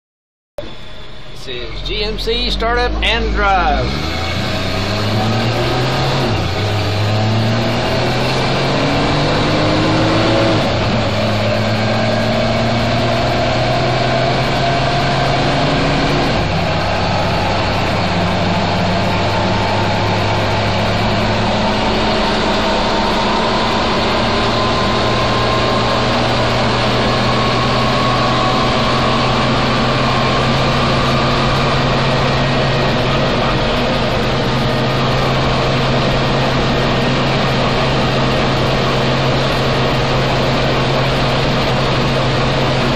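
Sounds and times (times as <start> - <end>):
faint drivetrain whine: 0.6 - 42.9
truck engine shifting gears: 0.6 - 42.9.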